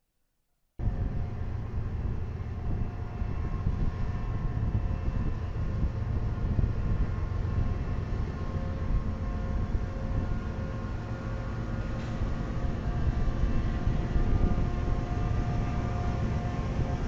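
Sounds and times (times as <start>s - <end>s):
locomotive engine rumble: 0.8s - 17.0s
locomotive whine: 0.8s - 17.0s.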